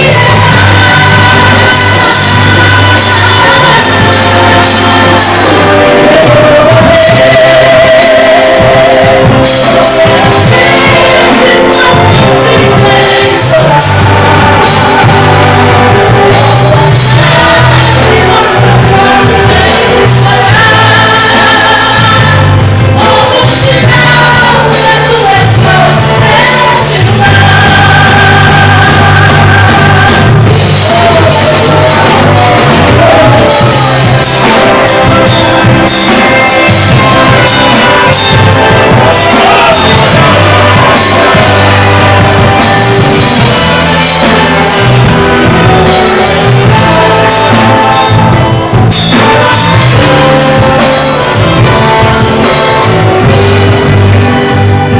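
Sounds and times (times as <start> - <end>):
bass line: 0.0 - 54.9
live gospel band and orchestra: 0.0 - 54.9
voices singing in parts: 0.0 - 54.9.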